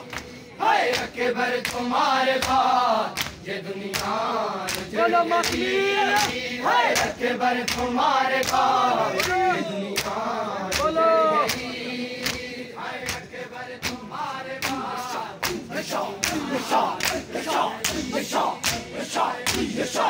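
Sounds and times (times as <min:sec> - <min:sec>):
men chanting a lament: 0:00.0 - 0:20.0
hands slapping chests: 0:00.1 - 0:05.6, 0:06.2 - 0:12.4, 0:14.6 - 0:19.7.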